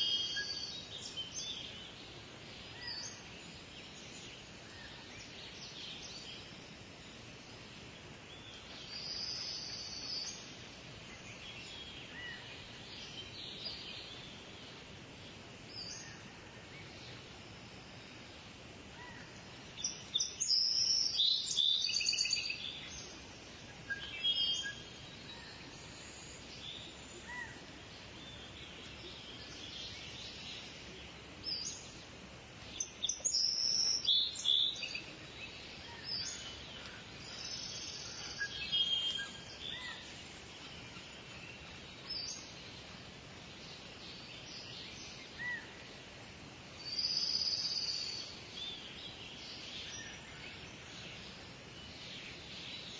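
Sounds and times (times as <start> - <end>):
small birds chirping: 0.0 - 52.9
steady background hiss: 0.0 - 52.9.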